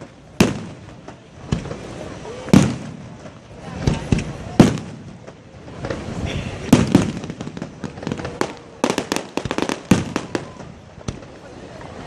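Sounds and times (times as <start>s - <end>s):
firework shells bursting: 0.0s - 11.4s
crackling firework pops: 0.0s - 11.9s.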